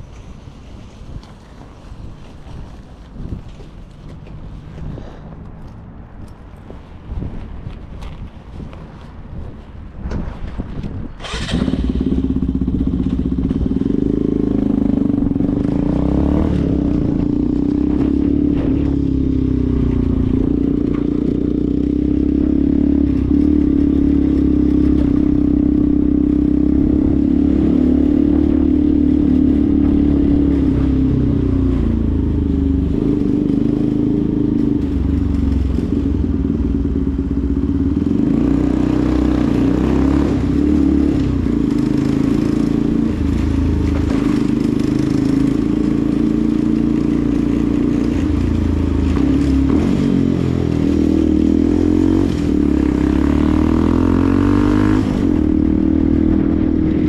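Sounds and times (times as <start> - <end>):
motorcycle engine starting and running: 8.9 - 57.0.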